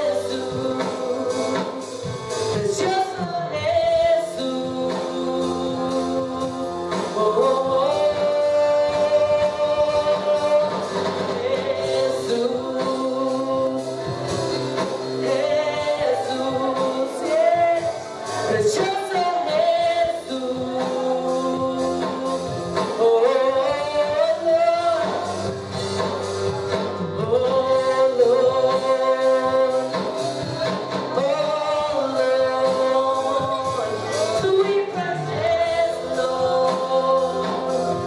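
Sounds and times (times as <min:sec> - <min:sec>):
congregation singing: 0:00.0 - 0:38.0
instrumental accompaniment: 0:00.0 - 0:38.0.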